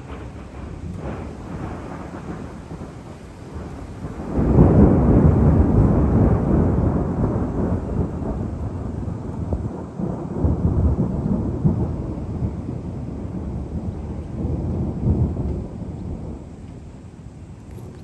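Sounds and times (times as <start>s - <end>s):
rolling thunder: 0.0s - 18.0s.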